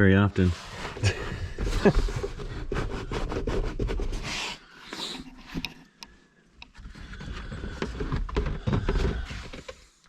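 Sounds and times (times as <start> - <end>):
plastic console scraping and knocking: 0.5 - 5.9, 6.6 - 10.0.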